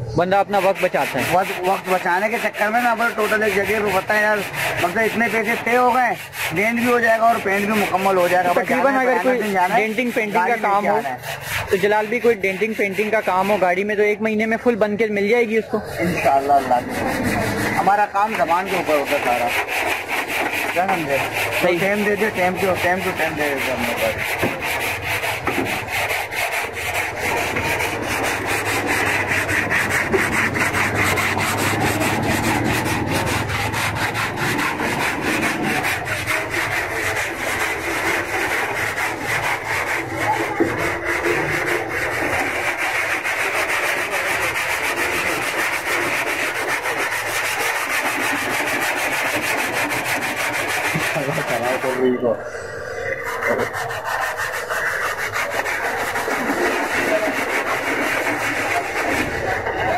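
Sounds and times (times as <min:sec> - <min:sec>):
hand sanding metal: 0:00.1 - 0:59.9.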